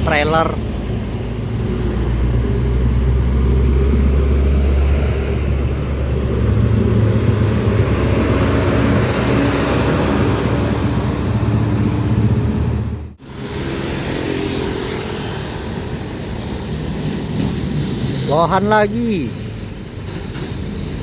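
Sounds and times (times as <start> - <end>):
diesel truck engine droning: 0.0 - 21.0
tyre and traffic noise: 0.0 - 21.0.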